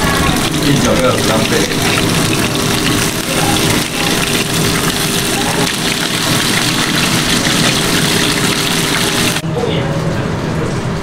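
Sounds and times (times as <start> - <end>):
fish bones sizzling in oil: 0.0 - 9.4.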